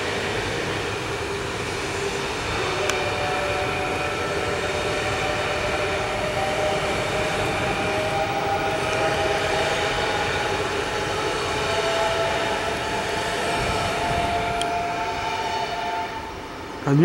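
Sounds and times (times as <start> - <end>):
electric train whine: 0.0 - 17.0
train rolling on rails: 0.0 - 17.0.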